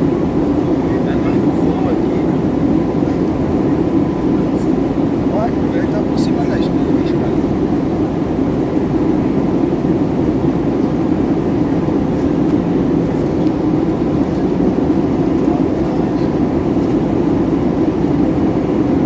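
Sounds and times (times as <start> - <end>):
airliner cabin drone: 0.0 - 19.0.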